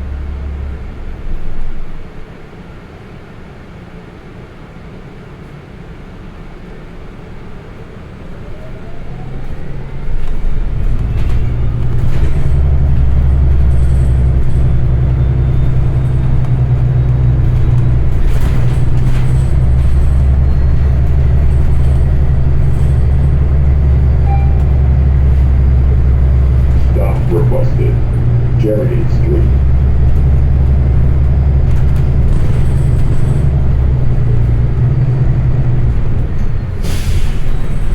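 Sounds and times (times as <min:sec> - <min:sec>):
bus engine drone: 0:00.0 - 0:37.9.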